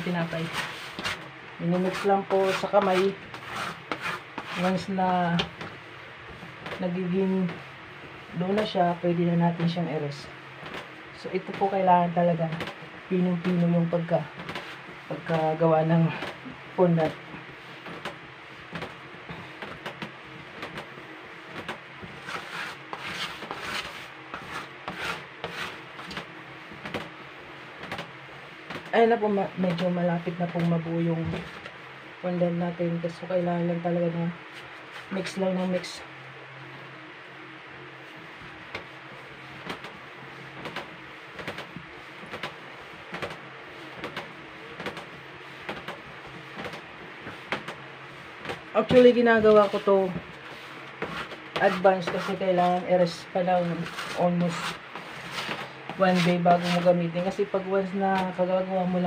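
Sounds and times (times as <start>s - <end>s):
hands kneading fondant: 0.0s - 5.8s, 8.4s - 31.8s, 38.0s - 59.0s.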